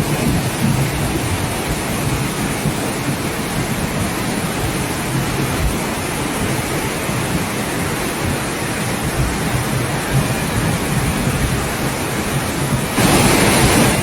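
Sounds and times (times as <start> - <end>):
heavy rushing water: 0.0 - 14.0.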